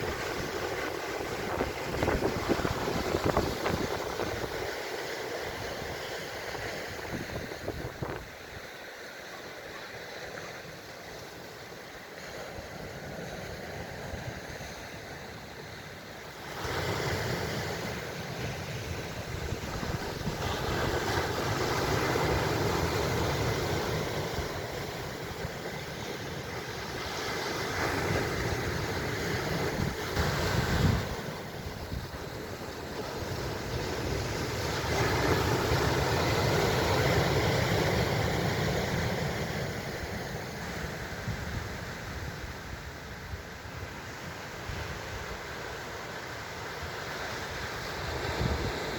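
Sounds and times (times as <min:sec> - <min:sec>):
wind rumbling on microphone: 0:00.0 - 0:08.6, 0:16.6 - 0:45.8, 0:47.4 - 0:48.9
ocean surf washing in: 0:00.0 - 0:48.9.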